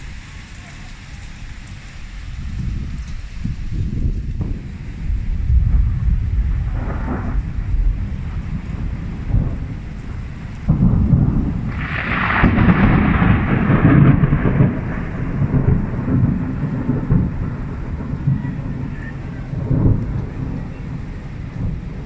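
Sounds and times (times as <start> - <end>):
thunder rumbling: 0.0 - 22.0.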